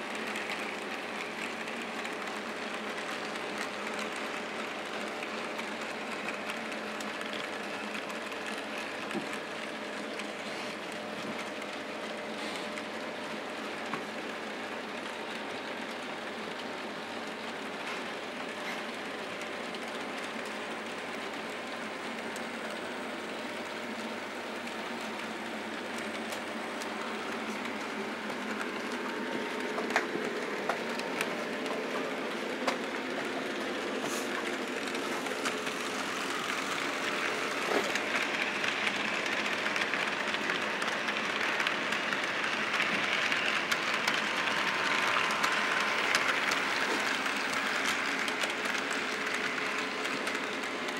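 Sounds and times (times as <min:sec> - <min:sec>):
model train motors whirring: 0:00.0 - 0:50.9.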